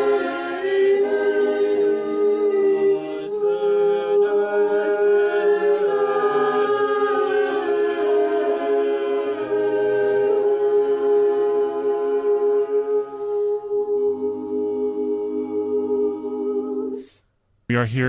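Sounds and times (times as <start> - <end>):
choir singing a cappella: 0.0 - 17.2.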